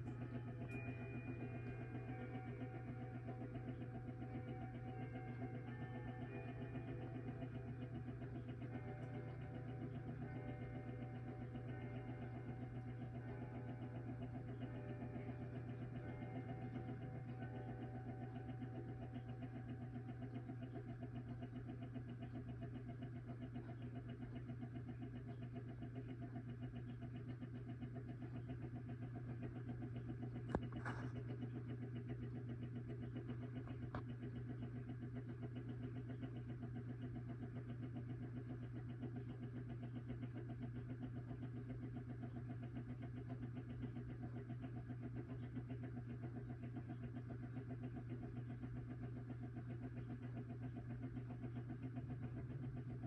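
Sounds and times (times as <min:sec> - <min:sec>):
electric clock motor humming: 0:00.0 - 0:53.0.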